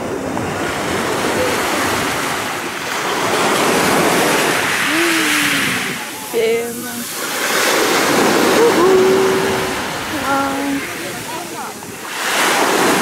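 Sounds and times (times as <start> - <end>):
waves washing on pebble beach: 0.0 - 13.0.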